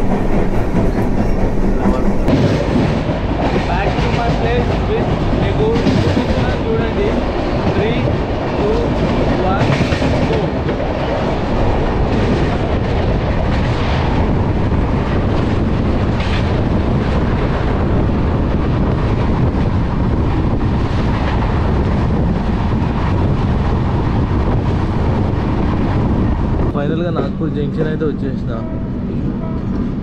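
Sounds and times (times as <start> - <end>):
passing train coaches: 0.0 - 30.0
train rumbling: 0.0 - 30.0
wind buffeting microphone: 0.0 - 30.0.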